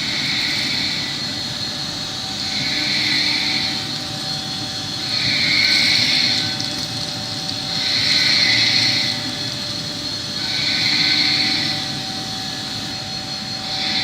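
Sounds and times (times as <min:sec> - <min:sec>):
machine running: 0:00.0 - 0:14.0
pulsing hiss: 0:00.0 - 0:14.0
steady hums: 0:00.0 - 0:14.0.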